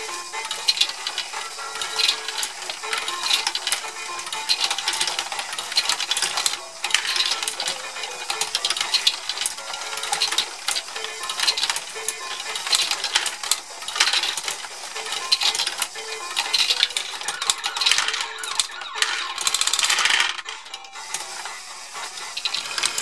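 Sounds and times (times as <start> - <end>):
motor whirring: 0.0 - 23.0
plastic balls clattering: 0.0 - 23.0.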